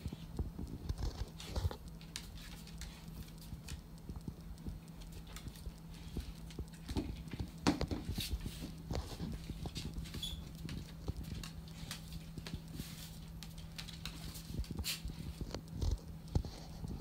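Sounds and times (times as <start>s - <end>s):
dog claws clicking on tile: 0.8s - 17.0s.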